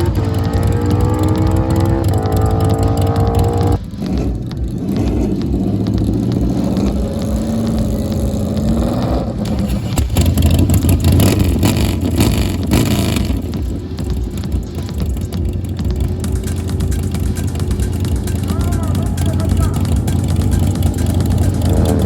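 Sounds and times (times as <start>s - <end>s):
motorcycle engine revving high: 0.0s - 22.0s
rough engine rumble with crackles: 0.0s - 22.0s.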